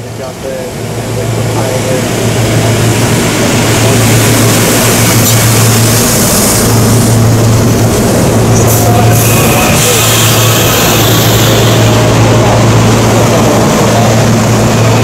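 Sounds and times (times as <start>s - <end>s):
electric train passing: 0.0s - 15.0s
wheels rushing on rails: 0.0s - 15.0s.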